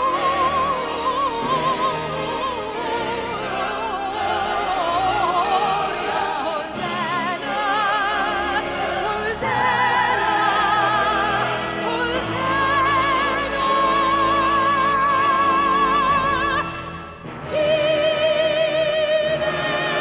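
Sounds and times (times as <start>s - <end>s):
orchestra and choir singing carol: 0.0s - 20.0s.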